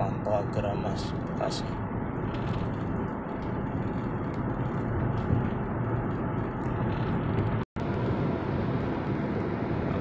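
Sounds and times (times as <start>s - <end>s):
car engine noise: 0.0s - 10.0s
tyres rumbling on road: 0.0s - 10.0s.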